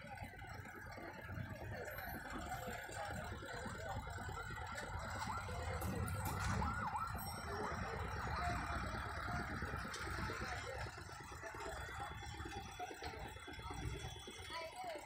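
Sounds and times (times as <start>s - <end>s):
low traffic rumble: 0.0s - 15.0s
whistle-like tones: 2.0s - 15.0s.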